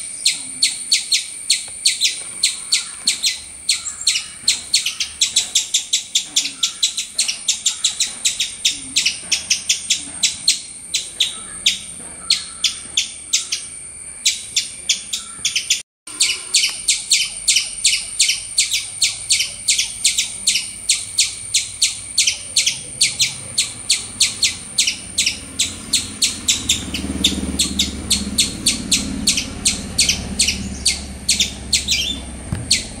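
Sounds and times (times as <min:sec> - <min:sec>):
high chirping calls: 0:00.0 - 0:33.0.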